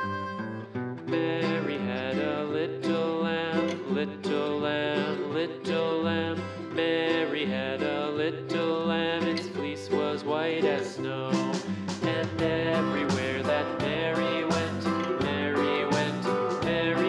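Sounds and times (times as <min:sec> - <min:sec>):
country guitar music: 0:00.0 - 0:17.0.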